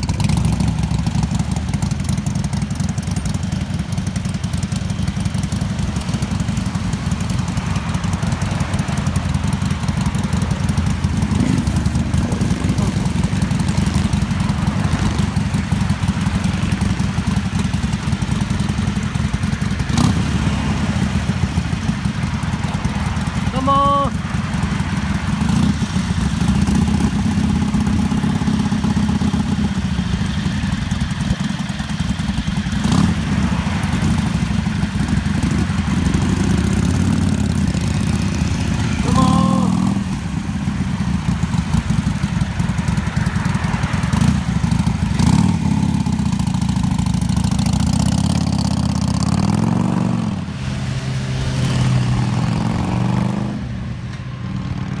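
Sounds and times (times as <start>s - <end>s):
motorcycles idling and revving: 0.0s - 55.0s.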